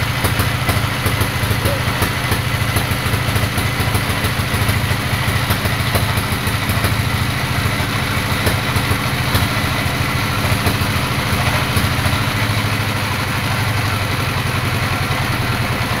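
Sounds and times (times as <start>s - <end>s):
band sawmill engine thumping: 0.0s - 16.0s.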